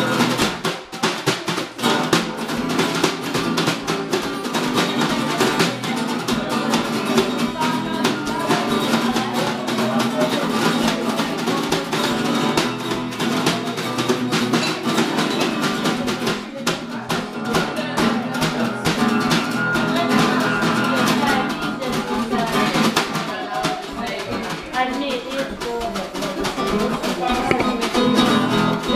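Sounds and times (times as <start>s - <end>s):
acoustic guitar strumming: 0.0s - 28.9s
snare drum played with sticks: 0.0s - 28.9s.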